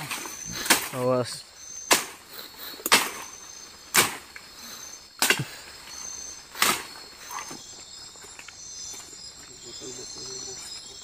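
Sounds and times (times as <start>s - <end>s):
forest insects chirring: 0.0s - 11.0s.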